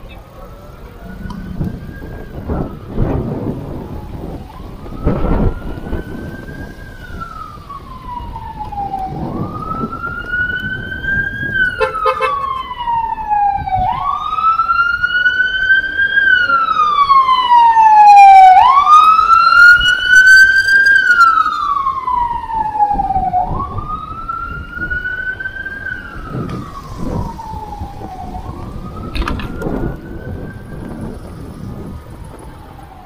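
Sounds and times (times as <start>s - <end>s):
emergency siren wailing: 0.0s - 33.0s
traffic rumble: 0.0s - 33.0s
wind: 0.0s - 33.0s.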